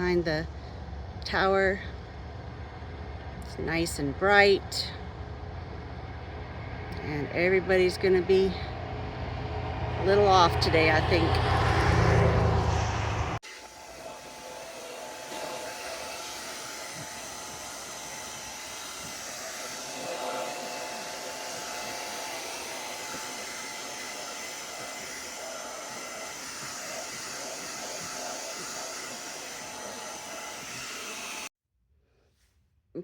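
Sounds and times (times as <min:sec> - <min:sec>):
hair dryer running: 0:00.0 - 0:31.5.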